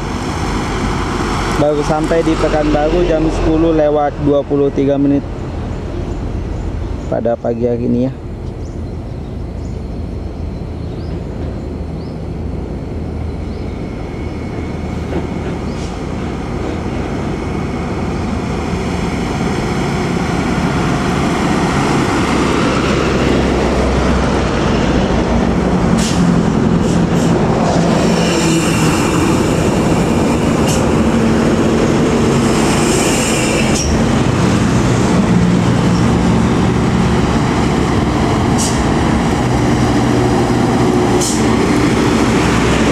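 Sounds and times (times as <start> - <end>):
heavy diesel traffic passing: 0.0 - 42.9.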